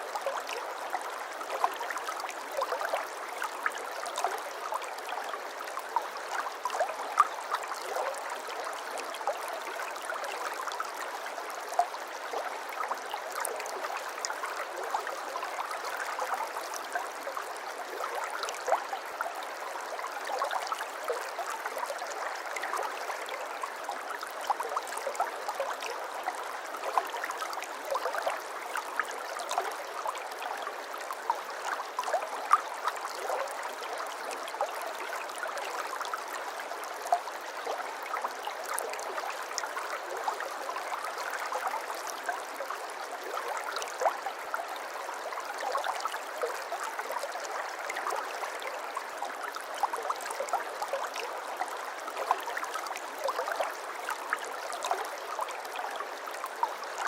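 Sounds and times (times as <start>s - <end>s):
shallow stream babbling: 0.0s - 57.0s.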